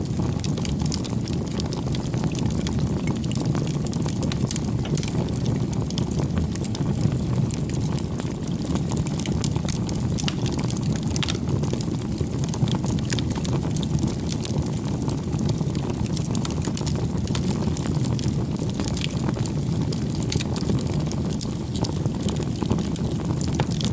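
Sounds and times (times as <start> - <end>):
campfire crackling: 0.0 - 23.9.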